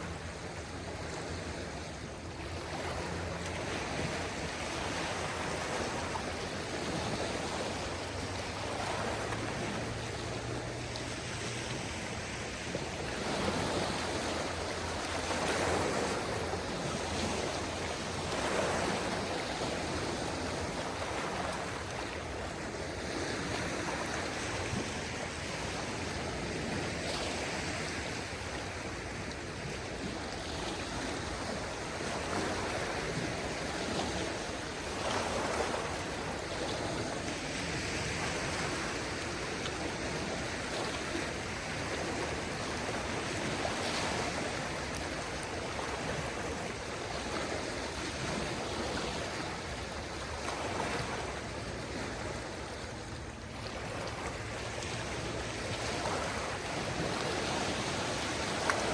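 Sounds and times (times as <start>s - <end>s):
waves lapping on shore: 0.0s - 58.9s.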